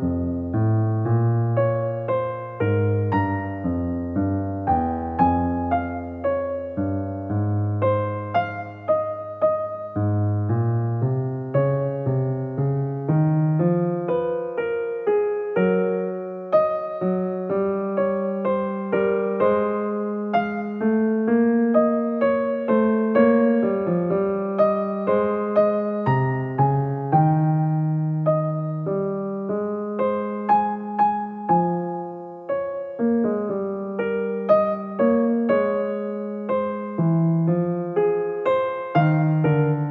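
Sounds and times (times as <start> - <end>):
calm piano music: 0.0 - 39.9.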